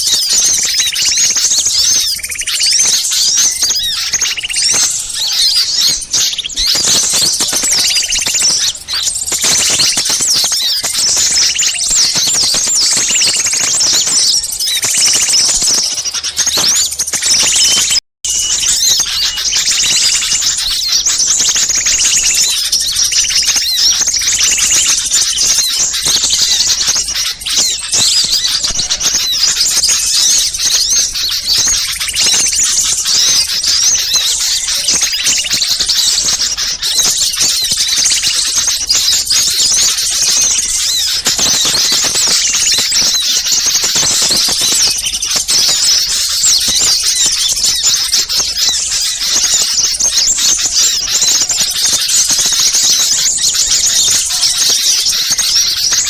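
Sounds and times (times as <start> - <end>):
songbirds chattering and twittering: 0.0 - 56.0.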